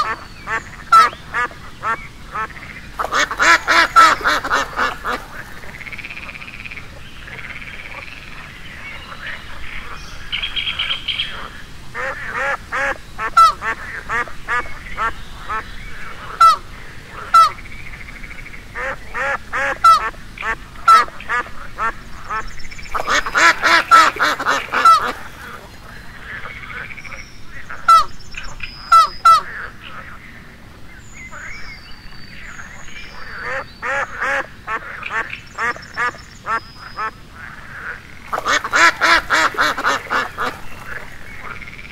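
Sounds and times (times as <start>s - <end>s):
ducks quacking: 0.0s - 17.7s, 18.4s - 28.1s, 28.9s - 30.4s, 33.2s - 41.9s.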